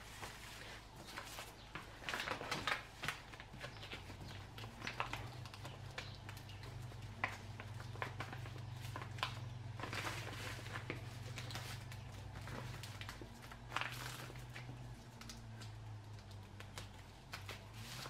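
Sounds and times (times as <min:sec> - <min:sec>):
plastic bag rustling and crinkling: 0:00.0 - 0:18.0.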